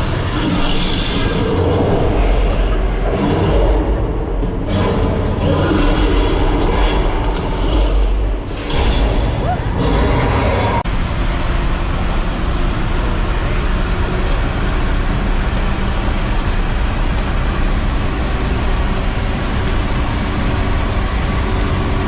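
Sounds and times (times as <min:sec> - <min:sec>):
tram motor and wheels rumbling: 0:00.0 - 0:22.0.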